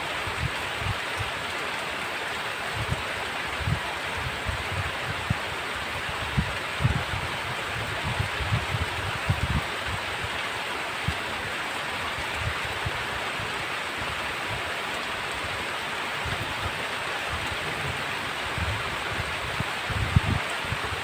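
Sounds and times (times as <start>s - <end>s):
heavy rain hiss: 0.0s - 21.0s.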